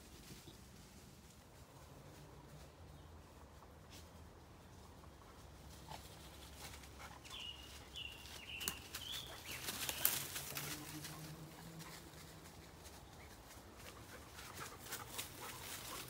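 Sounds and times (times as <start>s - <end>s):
rustling in forest undergrowth: 0.0s - 16.0s.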